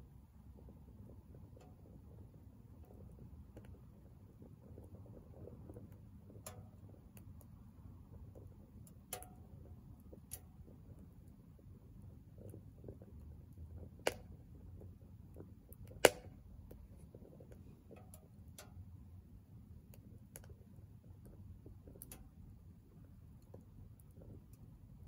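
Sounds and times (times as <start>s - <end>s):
faint low rumble: 0.0s - 25.0s
firewood crackling and popping: 0.0s - 25.0s.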